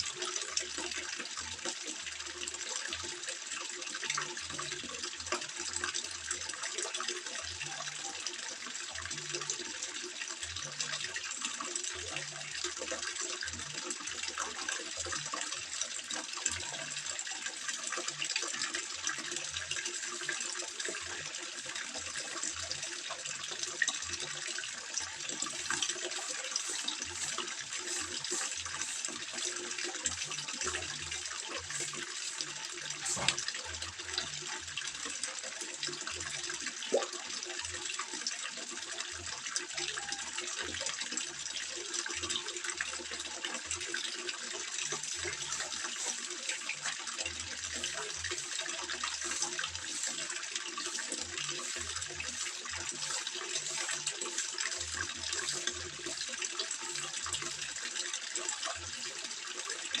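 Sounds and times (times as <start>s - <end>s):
water trickling into pond: 0.0s - 60.0s.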